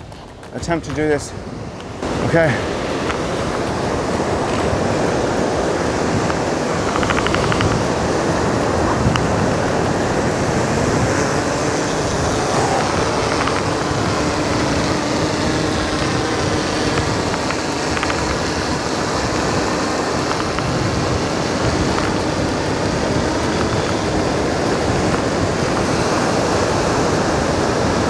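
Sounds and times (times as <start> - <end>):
drone rotors humming: 0.0 - 28.0
strong wind on microphone: 0.0 - 28.0.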